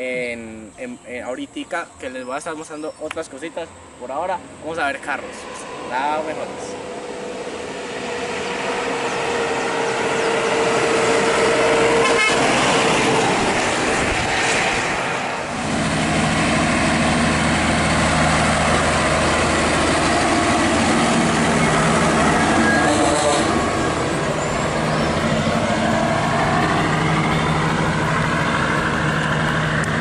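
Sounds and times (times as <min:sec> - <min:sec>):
diesel engine deep drone: 0:00.0 - 0:30.0
diesel trucks passing on highway: 0:01.4 - 0:30.0.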